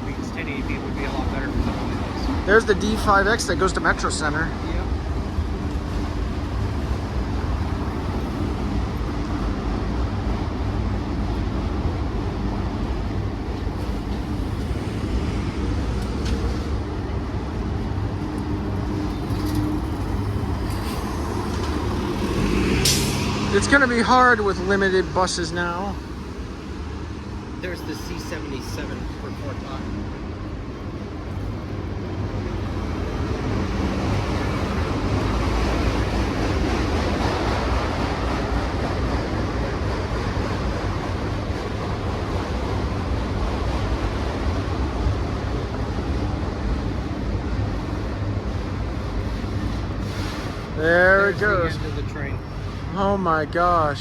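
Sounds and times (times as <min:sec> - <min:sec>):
freight cars rumbling past: 0:00.0 - 0:54.0.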